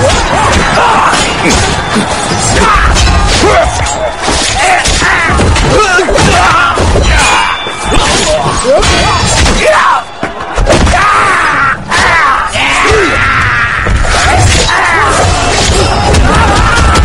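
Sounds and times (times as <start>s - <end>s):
soldiers shouting war cries: 0.0s - 17.0s
weapons clashing: 0.0s - 17.0s.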